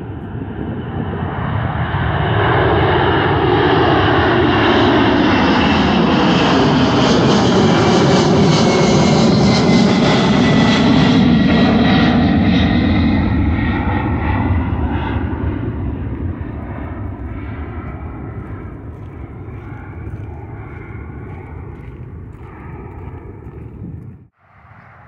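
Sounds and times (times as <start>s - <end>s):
jet engines rumbling with high whine: 0.0s - 25.0s.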